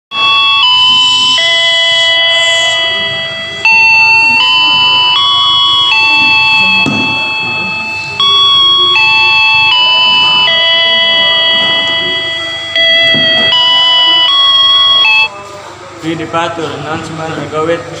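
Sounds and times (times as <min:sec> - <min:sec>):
electronic announcement chime: 0:00.1 - 0:15.4.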